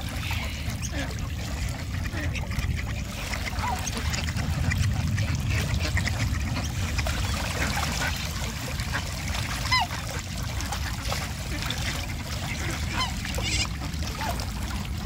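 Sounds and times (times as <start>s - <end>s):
small splashing: 0.0s - 15.0s
steady low rumble: 0.0s - 15.0s
water birds calling: 0.0s - 15.0s.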